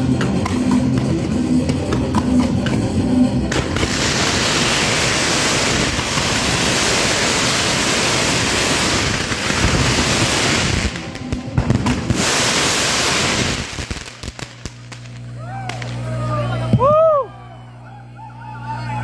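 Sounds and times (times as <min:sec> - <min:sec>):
fireworks crackling and hissing: 0:00.0 - 0:16.8.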